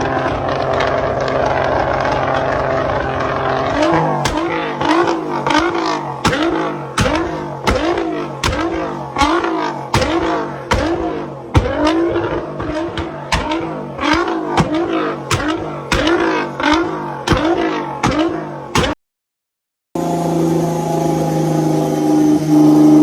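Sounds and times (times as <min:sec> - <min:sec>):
car engine revving: 0:00.0 - 0:19.0, 0:20.0 - 0:23.0
exhaust pops: 0:00.0 - 0:19.0.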